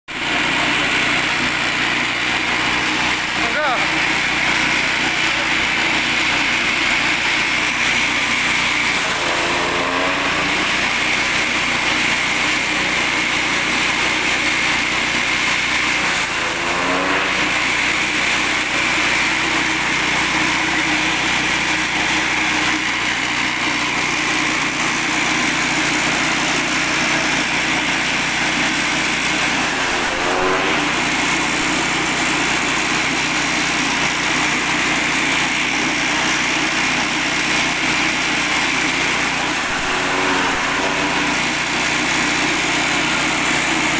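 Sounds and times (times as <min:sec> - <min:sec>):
grass chopper petrol engine running: 0:00.1 - 0:43.9.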